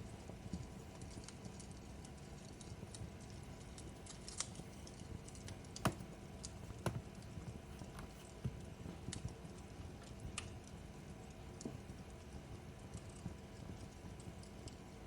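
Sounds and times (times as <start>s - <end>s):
fireplace fire crackling: 0.0s - 15.0s
low fire rumble: 0.0s - 15.0s.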